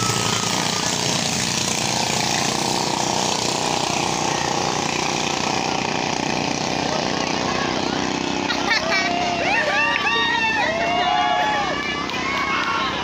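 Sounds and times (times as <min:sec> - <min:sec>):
boat engines buzzing: 0:00.0 - 0:13.0.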